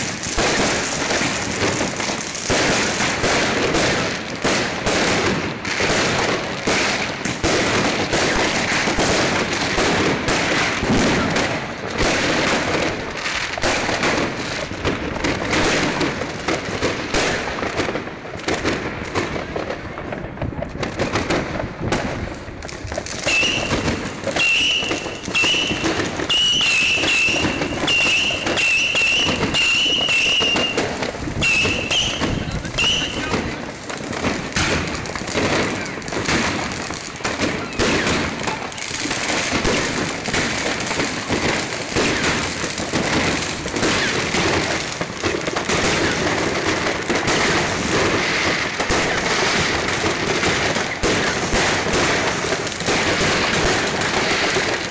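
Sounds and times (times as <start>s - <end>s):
fireworks bangs and pops: 0.0s - 54.9s.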